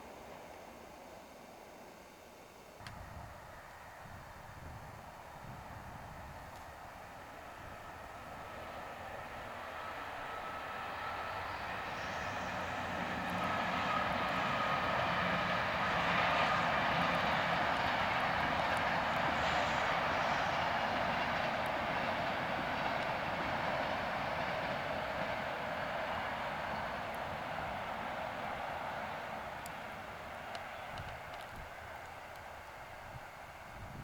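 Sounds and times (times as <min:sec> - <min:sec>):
train roar with faint whine: 0:00.0 - 0:34.0.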